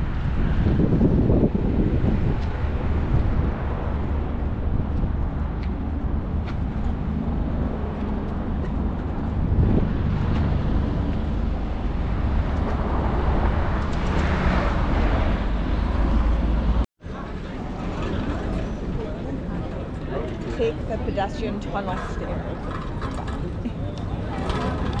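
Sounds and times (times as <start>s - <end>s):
city traffic: 0.0s - 25.0s
wind rumble on microphone: 0.0s - 25.0s.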